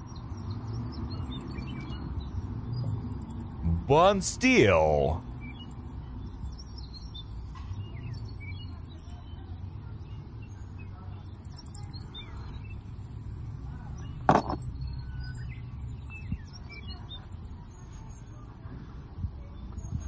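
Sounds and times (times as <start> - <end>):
small birds chirping: 0.0 - 3.6, 5.4 - 18.5.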